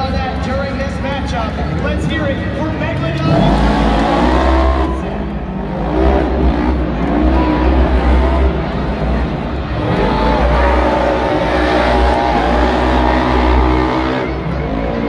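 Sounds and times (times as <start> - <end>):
low rumble echoing in arena: 0.0 - 15.0
race vehicle engines revving: 0.0 - 15.0.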